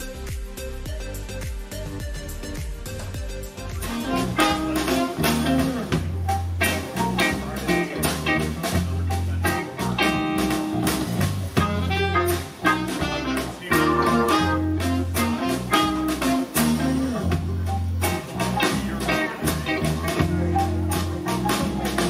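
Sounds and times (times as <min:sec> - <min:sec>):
live band playing bluesy groove: 0:00.0 - 0:22.0.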